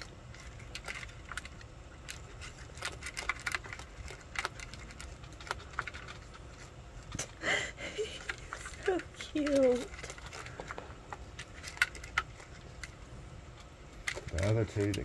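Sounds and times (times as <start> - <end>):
animal crunching dry kibble: 0.0 - 15.0.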